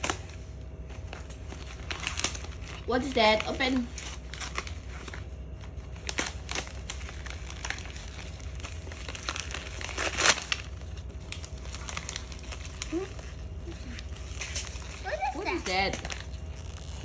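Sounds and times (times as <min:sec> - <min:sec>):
wrapping paper crinkling and tearing: 0:00.0 - 0:17.0.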